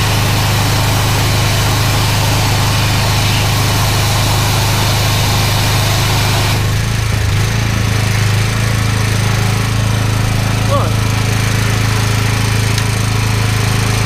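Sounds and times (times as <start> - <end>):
engine running: 0.0 - 14.0
high-pressure water hissing: 0.0 - 14.0.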